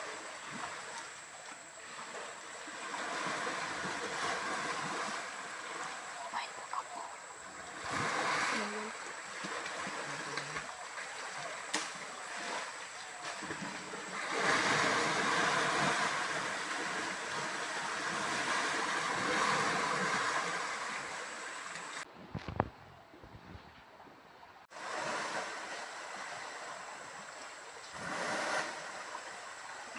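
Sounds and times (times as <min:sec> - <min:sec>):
stream water rushing: 0:00.0 - 0:22.1, 0:24.7 - 0:29.9.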